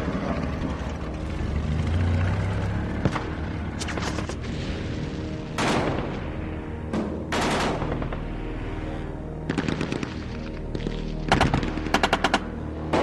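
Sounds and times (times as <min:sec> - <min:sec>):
film music score: 0:00.0 - 0:13.0.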